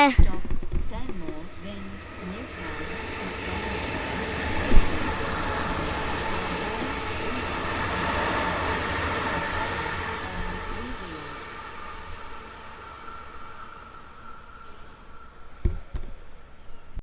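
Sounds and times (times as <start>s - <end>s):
electric train running: 0.0s - 16.9s.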